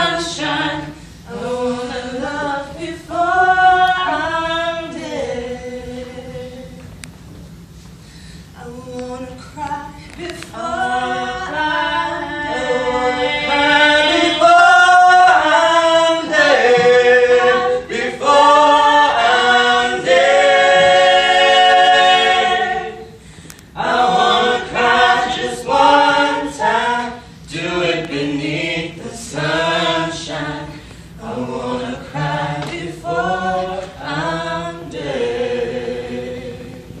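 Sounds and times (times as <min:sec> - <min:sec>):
group singing unaccompanied: 0:00.0 - 0:06.9, 0:08.6 - 0:37.0.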